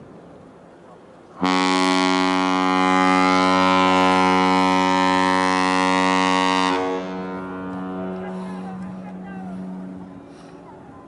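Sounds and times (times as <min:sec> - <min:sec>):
deep ship horn blast: 0:01.4 - 0:10.6.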